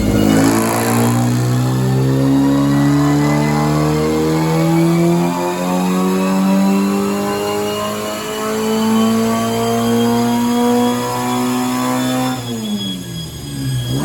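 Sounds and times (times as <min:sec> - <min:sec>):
race car engine revving: 0:00.0 - 0:14.0.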